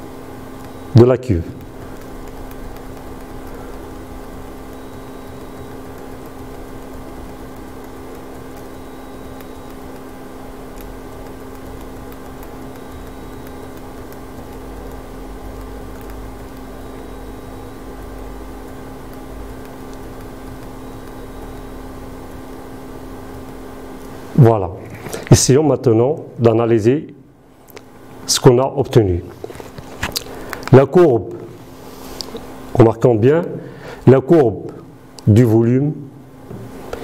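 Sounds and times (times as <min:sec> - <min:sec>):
low machine hum: 0:00.0 - 0:37.0.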